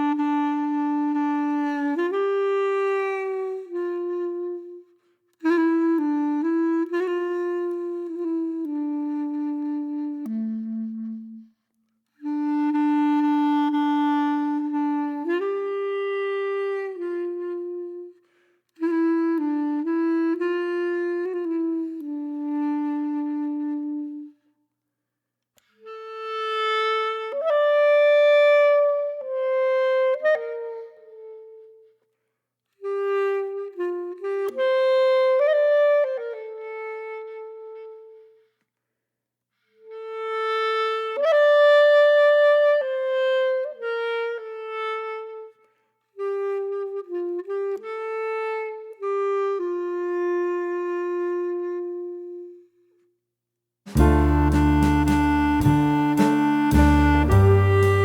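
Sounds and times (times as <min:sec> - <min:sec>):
woodwind playing slow melody: 0:00.0 - 0:11.6, 0:12.2 - 0:24.4, 0:25.8 - 0:32.0, 0:32.8 - 0:38.5, 0:39.8 - 0:52.8, 0:53.9 - 0:58.0.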